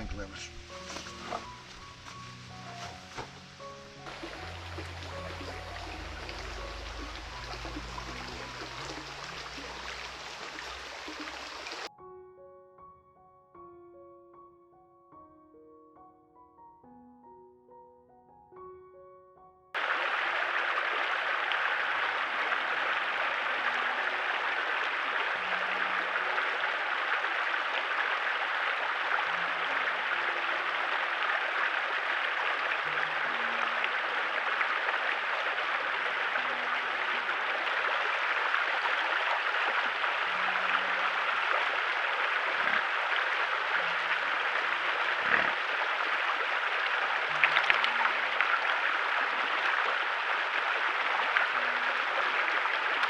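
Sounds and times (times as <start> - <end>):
river water rushing: 2.5 - 11.9, 19.8 - 53.0.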